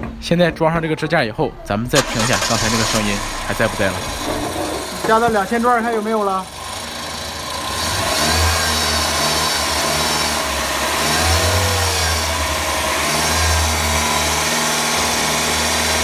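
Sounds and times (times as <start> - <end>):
car engine revving: 1.8 - 16.0.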